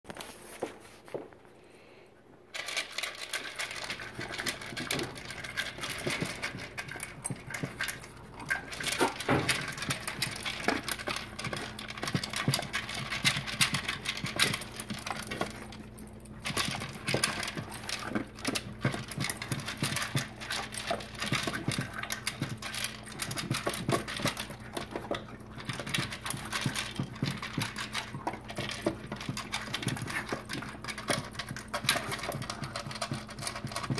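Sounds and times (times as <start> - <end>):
dogs eating from plastic bowls: 2.5 - 33.9.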